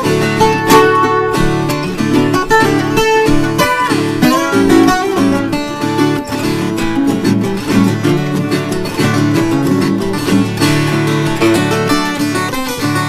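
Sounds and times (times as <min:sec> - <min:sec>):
plucked string melodic runs: 0:00.0 - 0:13.0
strummed chords: 0:00.0 - 0:13.0.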